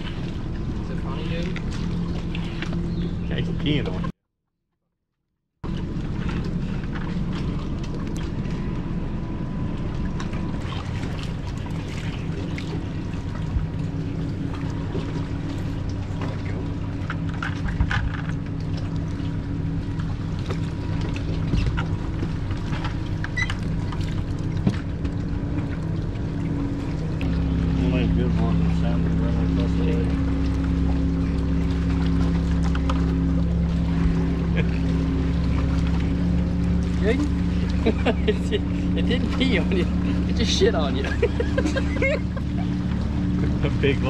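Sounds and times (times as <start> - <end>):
outboard motor idling: 0.0 - 4.2, 5.6 - 44.0.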